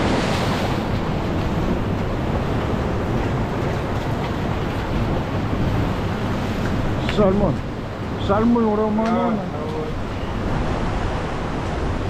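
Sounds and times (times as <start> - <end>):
ocean surf over rocks: 0.0 - 12.0
wind buffeting microphone: 0.0 - 12.0.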